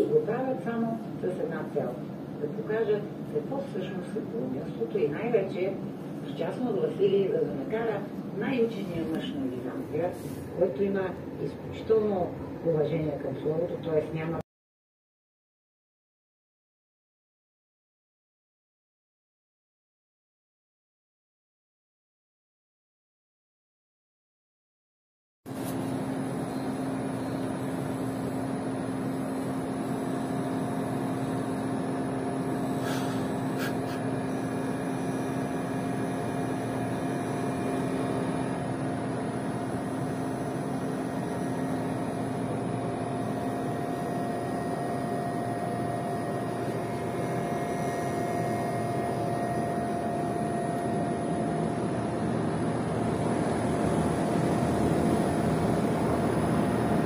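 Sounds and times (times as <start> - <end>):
air conditioner hum and fan whir: 0.0 - 14.4, 25.5 - 57.0.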